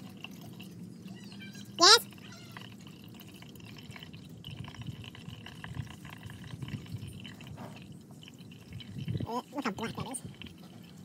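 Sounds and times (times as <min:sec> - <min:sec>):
oil pouring into pan: 0:00.0 - 0:11.0.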